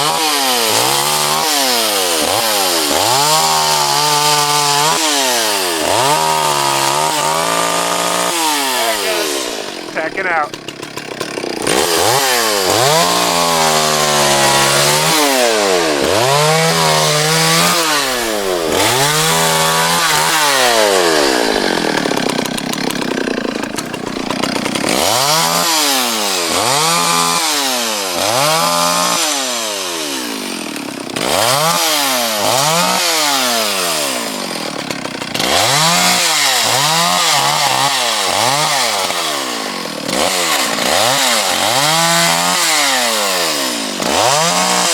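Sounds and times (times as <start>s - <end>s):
chainsaw revving cutting wood: 0.0s - 44.9s.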